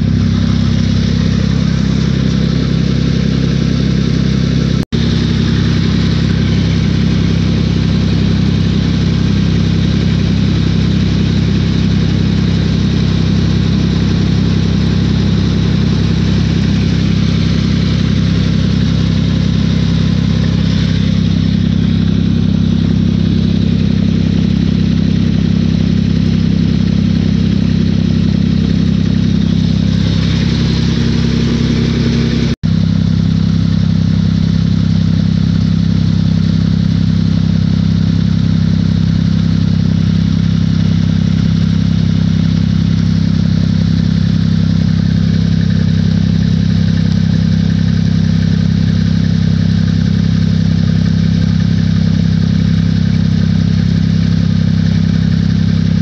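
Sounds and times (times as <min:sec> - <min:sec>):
motor running steadily: 0:00.0 - 0:56.0.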